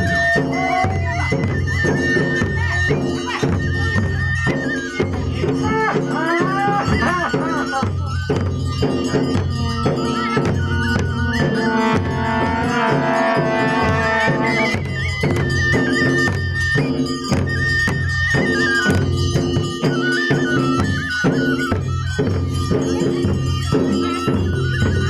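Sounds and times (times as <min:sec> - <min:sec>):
drums beating: 0:00.0 - 0:25.0
wind instrument melody: 0:00.0 - 0:25.0
steady held tones: 0:03.7 - 0:24.9.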